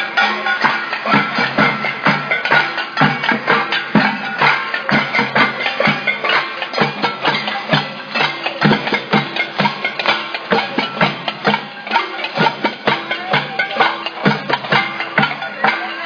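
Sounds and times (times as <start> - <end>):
percussion and noisemakers clattering: 0.0 - 16.0.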